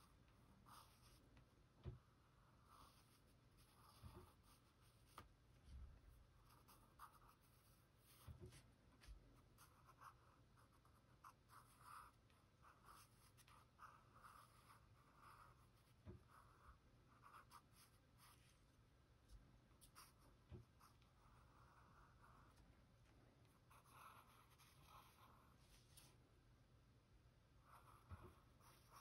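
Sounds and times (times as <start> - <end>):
pencil scratching on paper: 0.0 - 5.3, 6.0 - 18.8, 19.8 - 26.1, 27.6 - 29.0.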